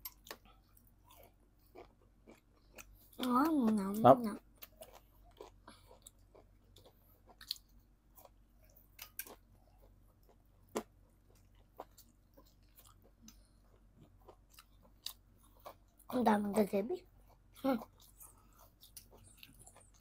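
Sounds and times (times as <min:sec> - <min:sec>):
faint chewing of food: 0:00.0 - 0:20.0.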